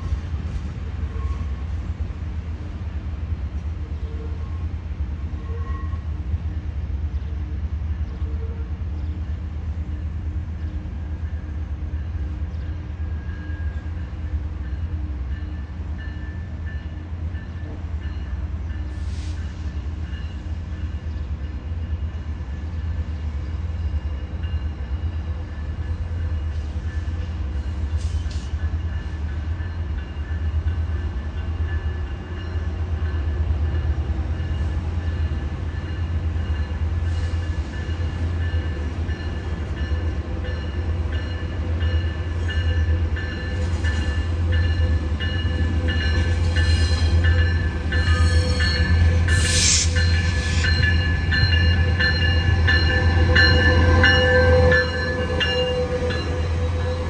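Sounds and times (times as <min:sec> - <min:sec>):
train wheel squeal: 0:01.0 - 0:01.7, 0:05.4 - 0:06.2, 0:10.6 - 0:30.6, 0:31.6 - 0:57.0.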